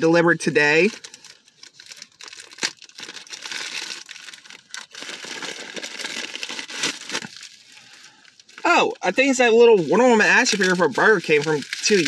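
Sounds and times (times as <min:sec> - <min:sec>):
envelope crinkling: 0:00.8 - 0:12.0
envelope ripping: 0:00.9 - 0:08.6, 0:09.8 - 0:12.0.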